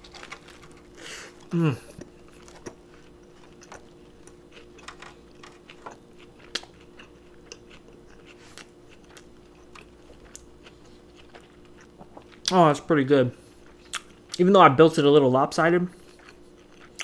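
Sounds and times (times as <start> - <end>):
person chewing: 0.0 - 12.6, 13.4 - 14.4, 16.0 - 17.0
faint steady hum: 0.0 - 17.0.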